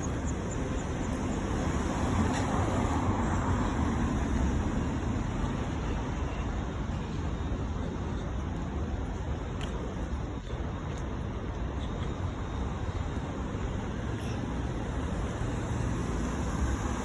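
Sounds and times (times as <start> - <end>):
street traffic rushing: 0.0 - 17.0.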